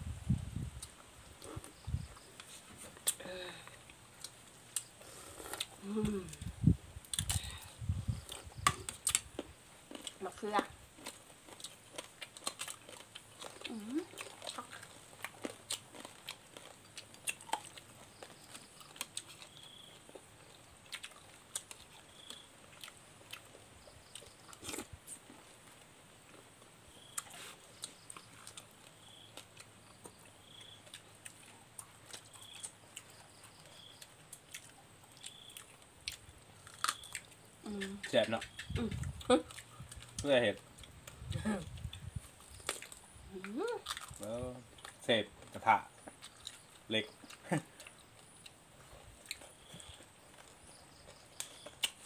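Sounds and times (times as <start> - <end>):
people chewing and biting food: 0.6 - 52.0.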